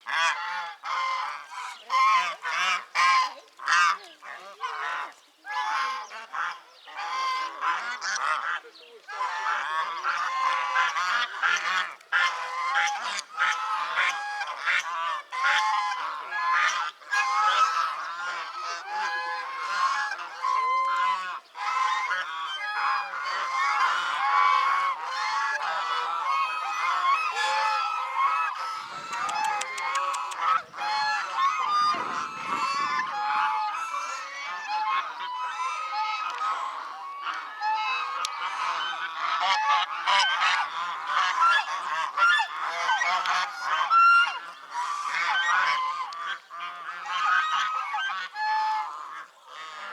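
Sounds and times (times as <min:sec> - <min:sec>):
geese honking: 0:00.1 - 0:49.9.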